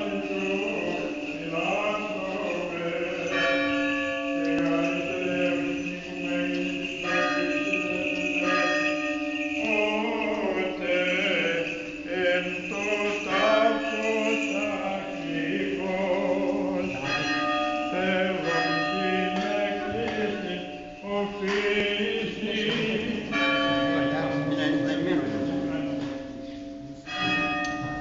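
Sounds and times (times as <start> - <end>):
slow chant melody: 0.0 - 28.0.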